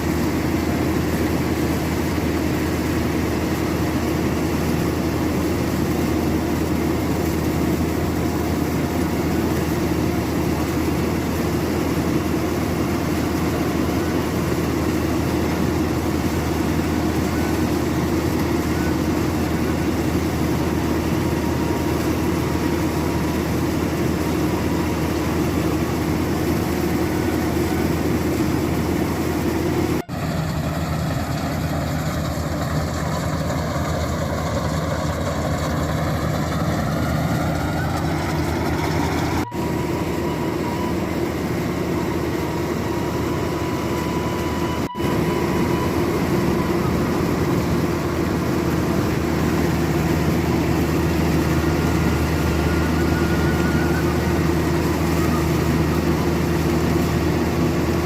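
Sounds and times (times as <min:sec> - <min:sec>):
combine harvester heavy drone: 0:00.0 - 0:58.0.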